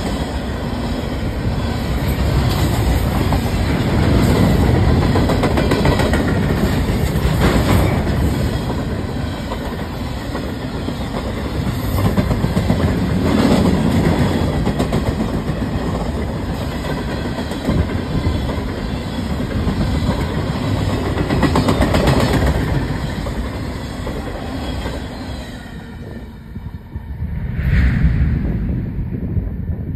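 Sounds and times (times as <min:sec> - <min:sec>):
freight train rolling past: 0:00.0 - 0:29.9.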